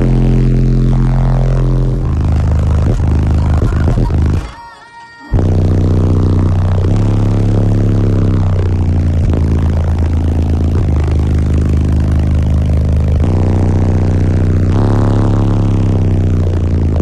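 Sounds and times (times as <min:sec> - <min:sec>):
loud bass-heavy music: 0:00.0 - 0:17.0.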